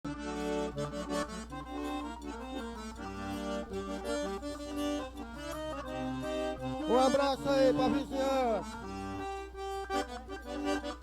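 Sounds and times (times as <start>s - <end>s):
accordion playing lively melody: 0.1s - 11.0s.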